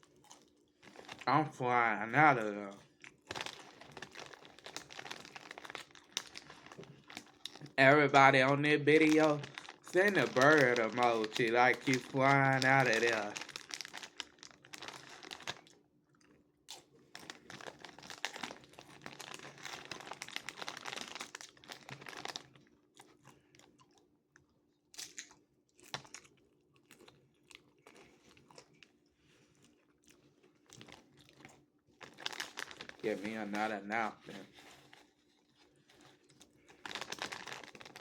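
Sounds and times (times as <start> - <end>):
person chewing crunchy chips: 0.0 - 38.0.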